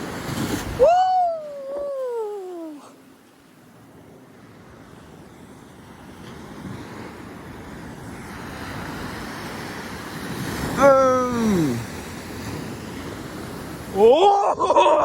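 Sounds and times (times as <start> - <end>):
ocean surf wave rolling in: 0.0 - 14.2.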